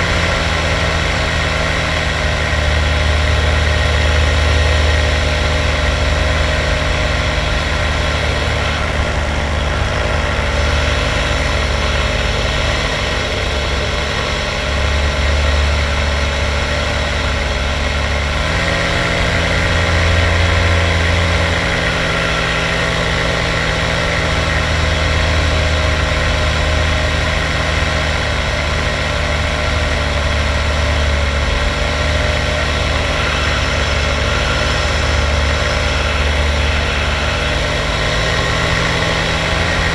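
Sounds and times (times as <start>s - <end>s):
light aircraft engine running: 0.0s - 39.9s.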